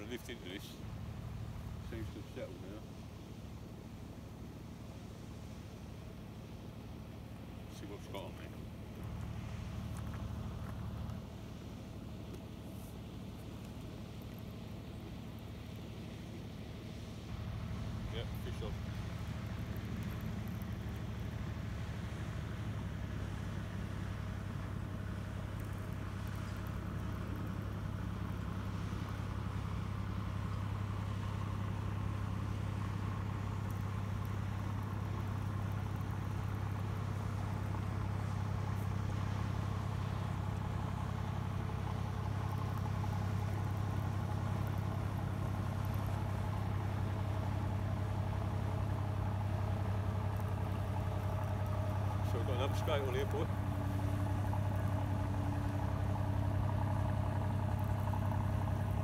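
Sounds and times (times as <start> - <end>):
motor boat engine droning: 0.0 - 59.0.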